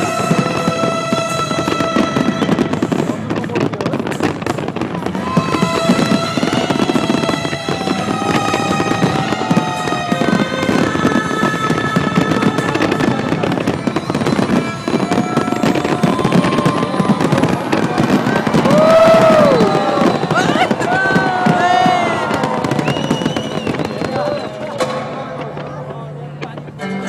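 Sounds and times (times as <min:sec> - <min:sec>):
fireworks banging and crackling: 0:00.0 - 0:27.0.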